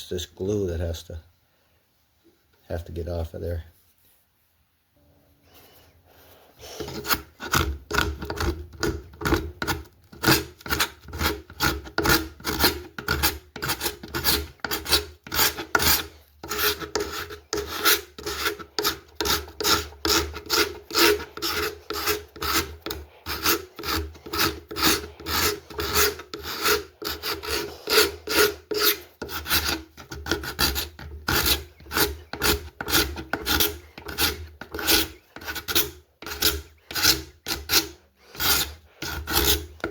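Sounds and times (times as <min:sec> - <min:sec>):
scraper scraping glue: 0:06.7 - 0:39.9.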